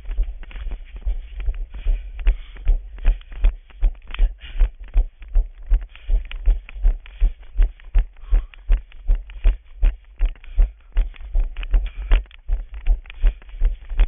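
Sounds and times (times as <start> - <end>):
running footsteps on asphalt: 0.0 - 14.0.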